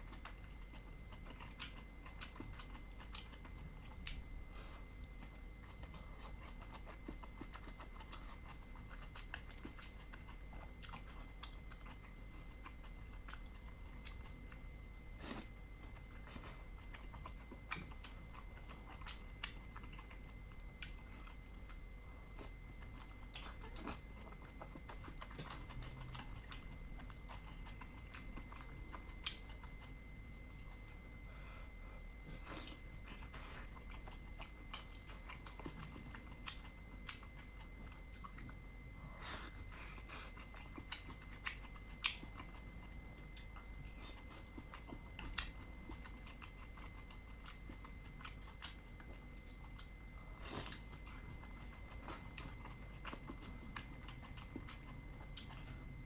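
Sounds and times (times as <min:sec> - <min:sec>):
chewing and biting: 0:00.0 - 0:31.0, 0:32.0 - 0:56.0.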